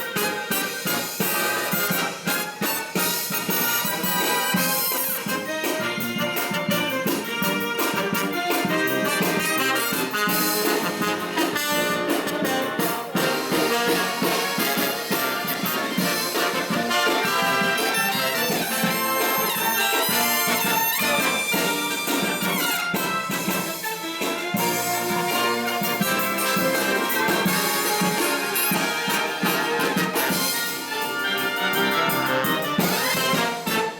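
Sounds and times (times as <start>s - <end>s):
brass band playing: 0.0s - 33.9s
drums: 0.0s - 33.9s
trumpets and trombones: 0.0s - 33.9s.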